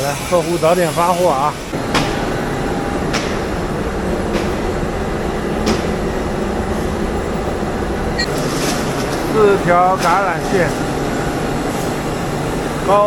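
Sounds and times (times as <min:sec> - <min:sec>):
mechanical din of machinery: 0:01.6 - 0:12.2.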